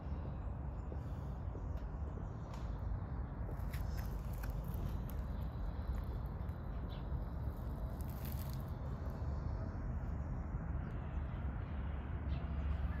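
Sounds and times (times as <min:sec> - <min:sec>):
low background rumble: 0:00.0 - 0:12.9.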